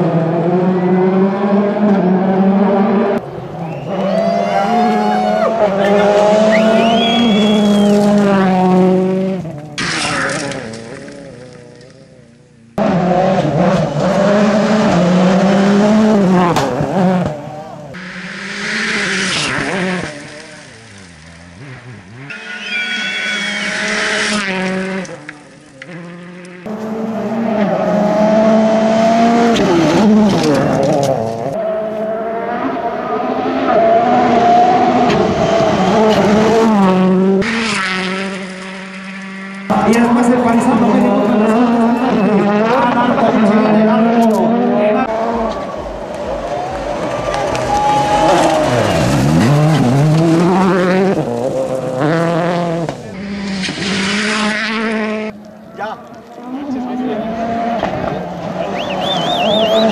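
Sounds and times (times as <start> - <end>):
rally car engine at high revs: 0.0 - 4.0, 5.5 - 59.9.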